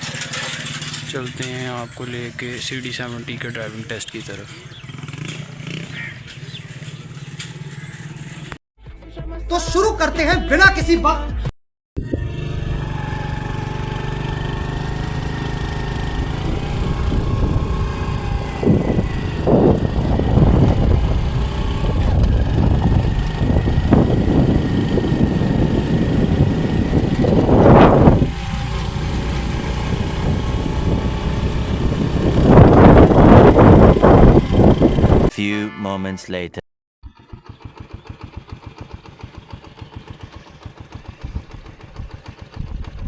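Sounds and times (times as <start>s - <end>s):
small motorcycle engine revving: 0.0s - 8.6s, 12.0s - 35.3s, 37.0s - 43.0s.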